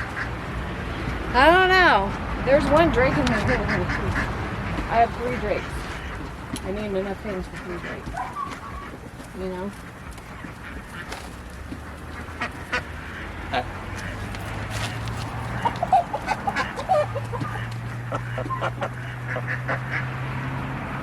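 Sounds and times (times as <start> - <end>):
ducks calling: 0.0 - 21.0.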